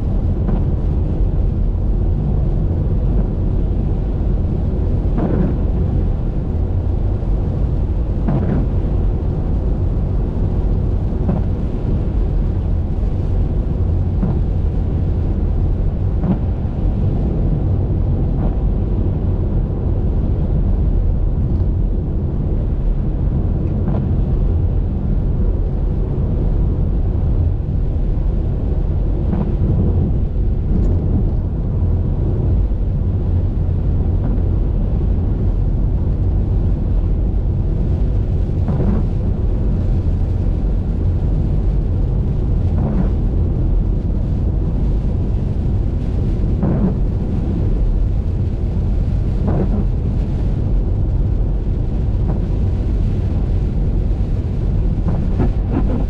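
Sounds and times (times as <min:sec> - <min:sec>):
car driving on wet highway: 0:00.0 - 0:56.0
tyre and wind noise: 0:00.0 - 0:56.0.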